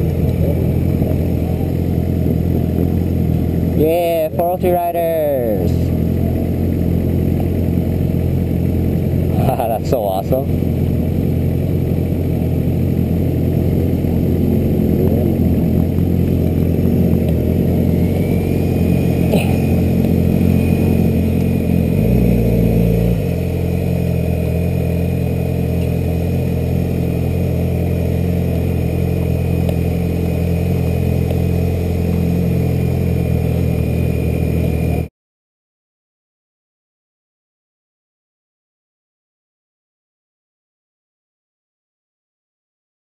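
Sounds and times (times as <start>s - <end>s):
motorcycle engines idling: 0.0s - 35.1s.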